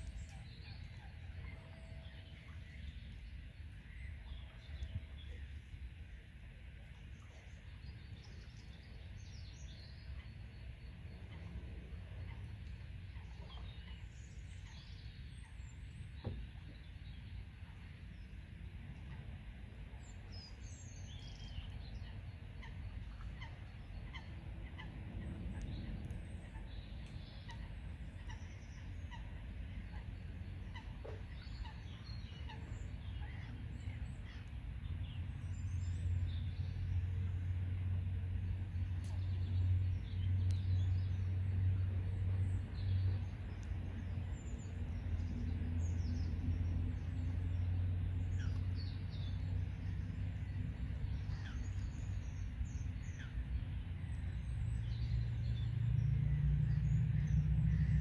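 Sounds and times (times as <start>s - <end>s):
steady low rumble: 0.0s - 58.0s
small birds chirping: 6.8s - 58.0s.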